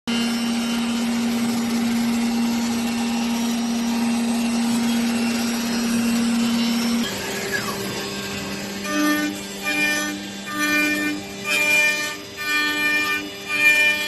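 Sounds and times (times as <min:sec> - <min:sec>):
machine spindle hum: 0:00.1 - 0:14.0.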